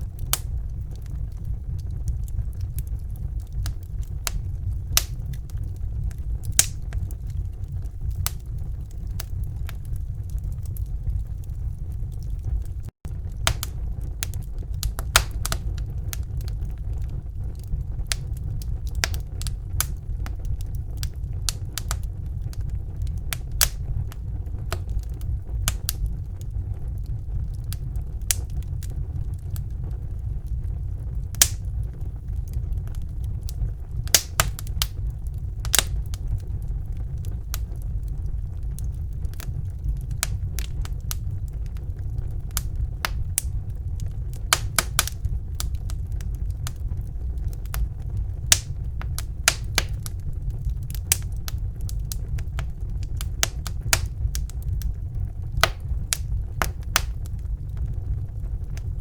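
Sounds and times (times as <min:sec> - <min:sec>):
low rumble of flames: 0:00.0 - 0:59.0
wood fire crackles and pops: 0:00.0 - 0:59.0.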